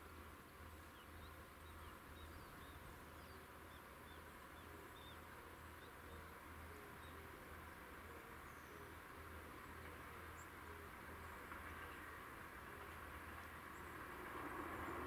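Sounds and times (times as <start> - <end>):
low steady background hum: 0.0 - 15.0.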